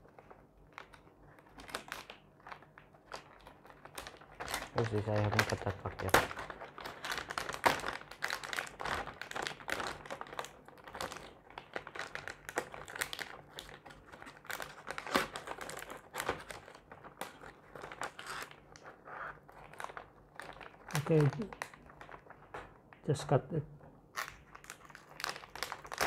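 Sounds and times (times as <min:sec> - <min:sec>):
plastic bag crinkling: 0:00.0 - 0:23.4, 0:24.1 - 0:26.0.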